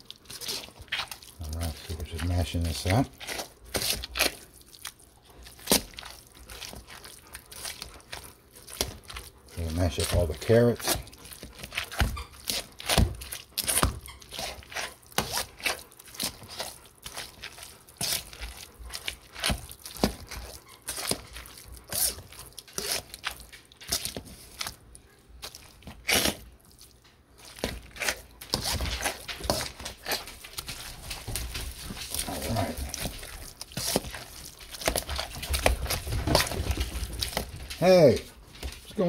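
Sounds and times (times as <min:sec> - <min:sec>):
potato masher squishing: 0:00.0 - 0:39.0.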